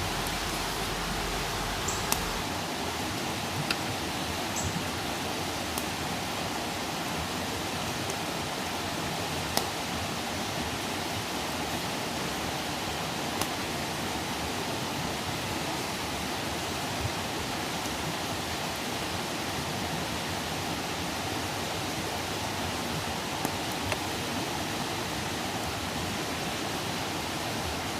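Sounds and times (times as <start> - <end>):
campfire hissing and crackling: 0.0 - 27.9.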